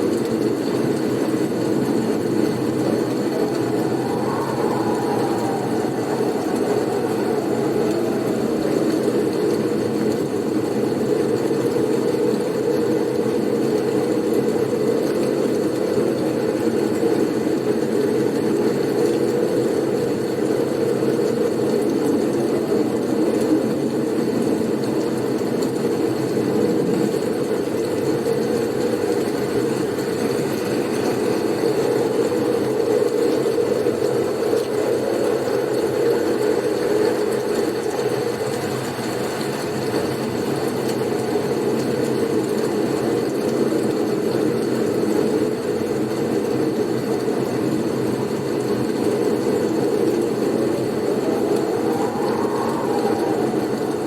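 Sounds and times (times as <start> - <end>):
deep blizzard wind: 0.0 - 54.0
rising wind whistle: 0.2 - 41.3, 41.9 - 54.0.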